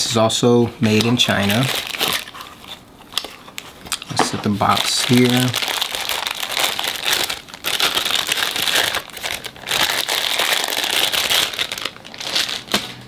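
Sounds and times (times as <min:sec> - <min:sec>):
plastic bag crinkling: 0:00.9 - 0:13.0.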